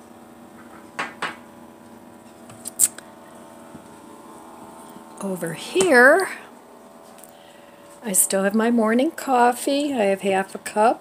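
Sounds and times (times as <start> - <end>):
refrigerator low hum: 0.0 - 11.0.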